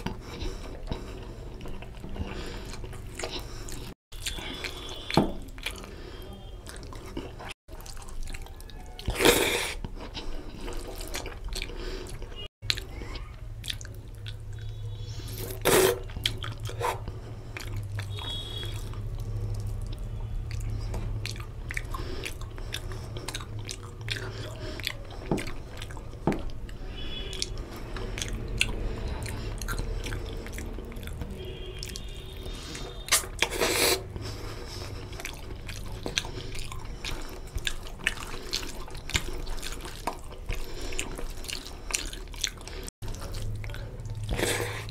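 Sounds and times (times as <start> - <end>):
wet chewing and lip smacking: 0.0 - 44.9.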